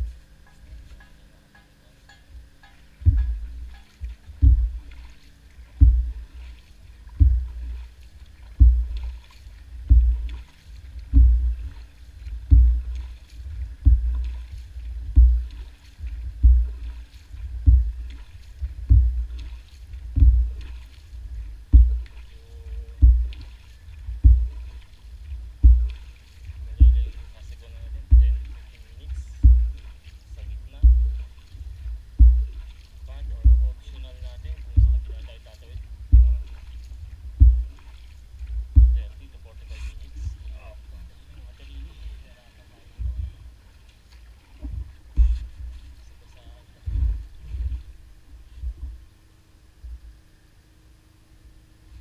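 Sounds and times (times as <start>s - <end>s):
paddle stroking through water: 0.0s - 50.1s.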